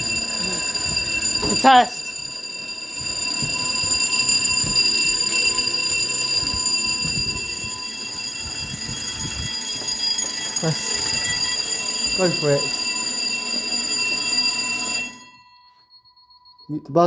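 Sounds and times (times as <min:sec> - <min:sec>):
fire alarm high-pitched tone: 0:00.0 - 0:17.0.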